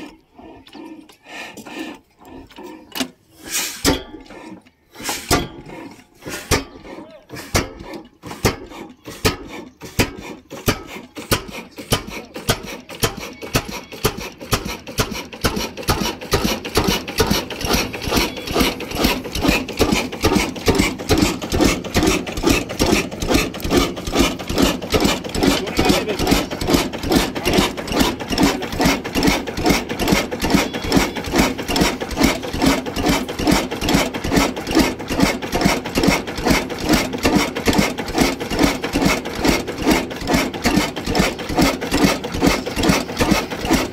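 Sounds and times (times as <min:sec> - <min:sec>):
diesel engine chuffing: 0:00.0 - 0:43.9.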